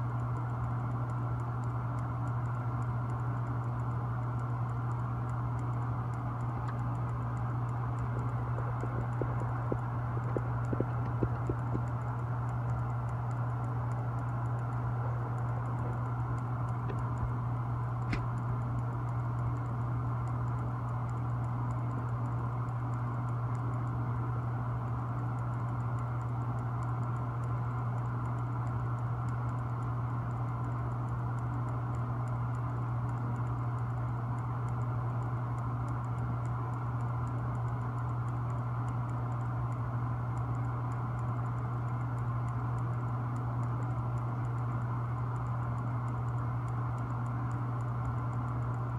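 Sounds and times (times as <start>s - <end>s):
faint rapid ticking: 0.0s - 48.9s
low mechanical hum: 0.0s - 48.9s.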